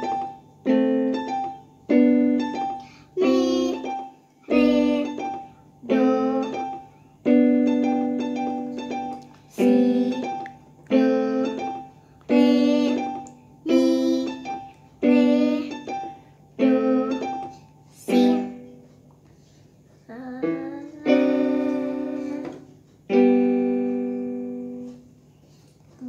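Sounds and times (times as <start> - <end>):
digital piano chords: 0.0 - 19.1, 20.1 - 25.2.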